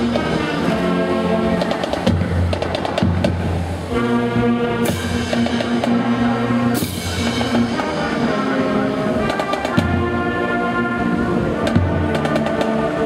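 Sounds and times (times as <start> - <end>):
brass holding chords: 0.0 - 13.0
marching drums: 0.0 - 13.0.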